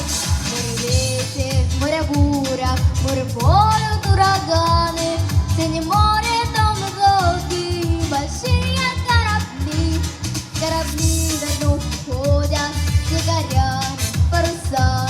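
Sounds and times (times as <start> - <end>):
backing track with bass beat: 0.0 - 15.0
girl singing: 0.4 - 15.0.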